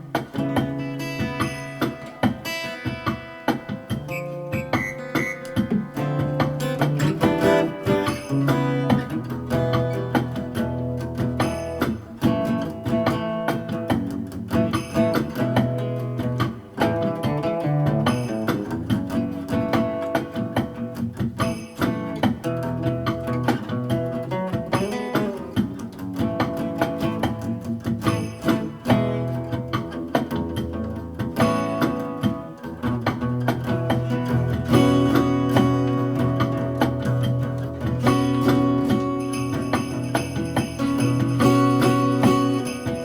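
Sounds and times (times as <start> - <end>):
guitar strummed and plucked: 0.0 - 43.0.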